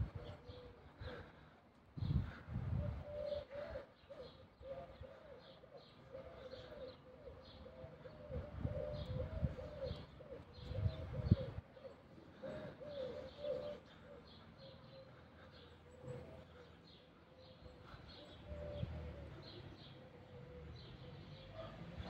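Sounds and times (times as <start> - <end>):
dove cooing: 0.0 - 1.4, 2.1 - 22.0.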